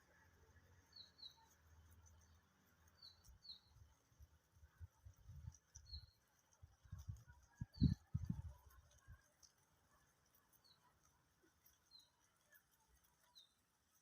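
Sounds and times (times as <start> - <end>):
faint bird chirps: 0.0 - 9.2, 9.8 - 14.0.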